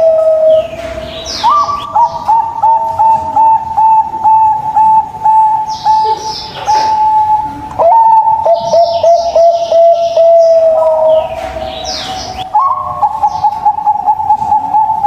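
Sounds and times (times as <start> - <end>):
dove cooing: 0.0 - 15.0
small birds chirping: 0.0 - 15.0.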